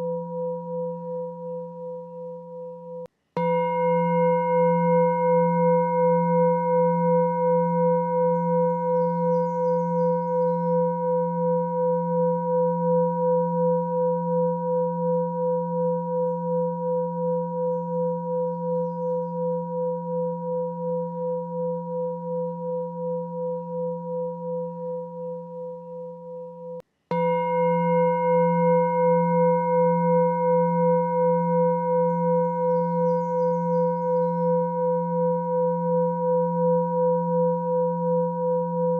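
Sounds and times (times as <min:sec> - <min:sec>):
ringing meditation tone: 0:00.0 - 0:38.9.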